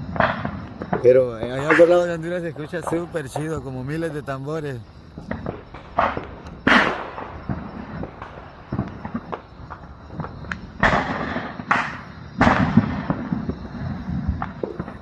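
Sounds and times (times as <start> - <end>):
fireworks and firecrackers: 0.0 - 15.0
loud fireworks booms: 0.0 - 15.0.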